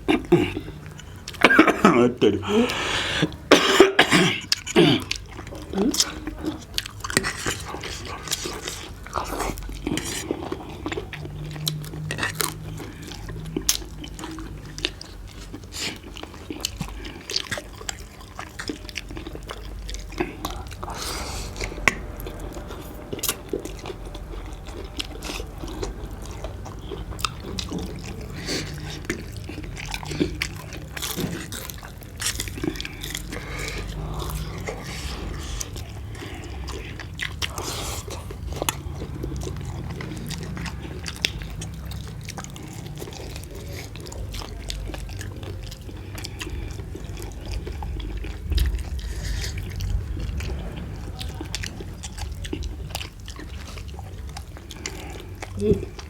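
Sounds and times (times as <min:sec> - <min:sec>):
chewing and biting: 0:00.0 - 0:01.8, 0:04.2 - 0:56.0
wet mouth sounds: 0:00.0 - 0:56.0.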